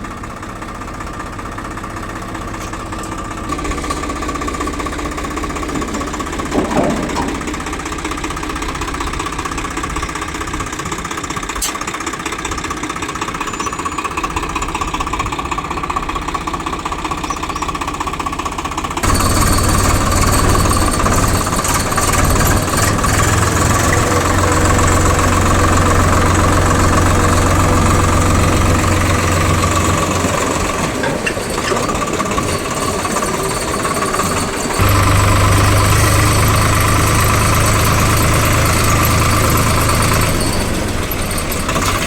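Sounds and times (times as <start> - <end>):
diesel engine knocking: 0.0 - 42.0.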